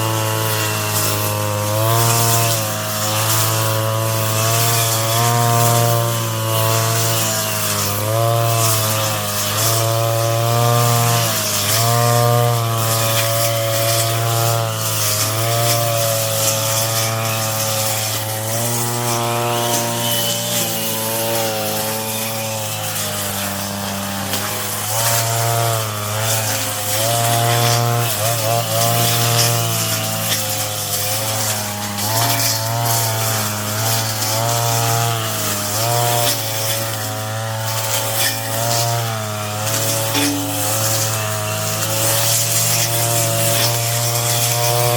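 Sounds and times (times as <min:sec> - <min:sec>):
brush cutter engine buzzing: 0:00.0 - 0:44.9.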